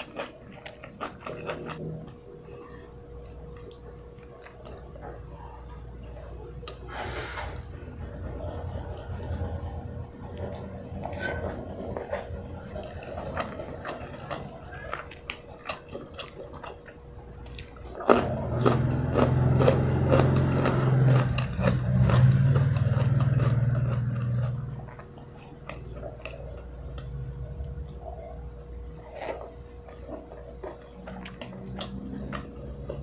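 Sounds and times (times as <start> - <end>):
chewing with wet clicks: 0.0 - 6.9, 8.4 - 33.0
low steady hum: 0.0 - 33.0.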